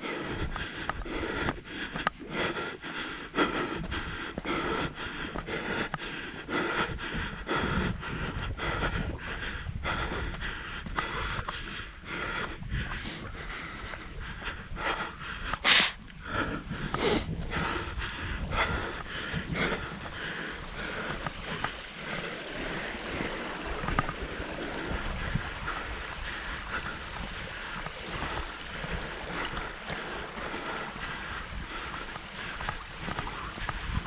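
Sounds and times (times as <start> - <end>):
footsteps on trail: 0.0 - 34.0
hard breathing: 0.0 - 34.0.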